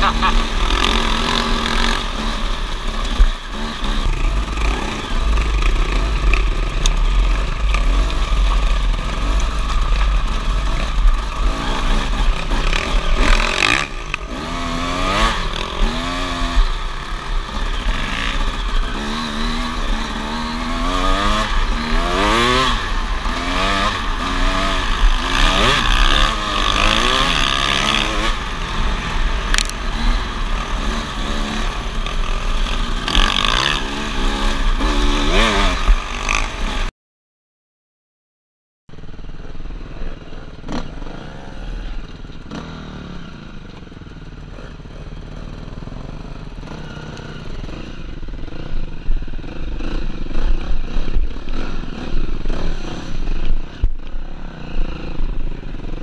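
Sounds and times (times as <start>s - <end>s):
dirt bike engine revving: 0.0s - 36.9s, 39.0s - 56.0s.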